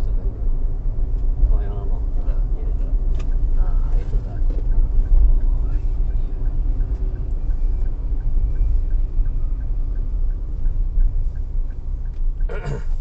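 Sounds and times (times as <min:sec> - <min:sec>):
car road and engine rumble: 0:00.0 - 0:13.0
turn signal ticking: 0:00.0 - 0:13.0.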